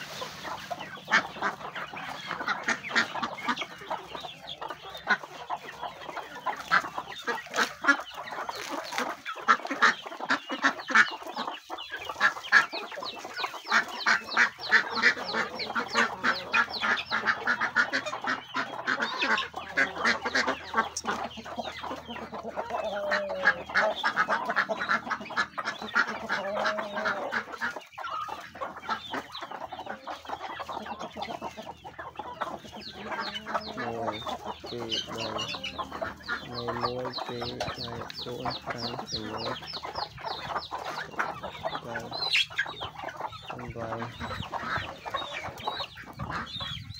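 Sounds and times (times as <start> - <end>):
chickens and ducks clucking: 0.0 - 46.9.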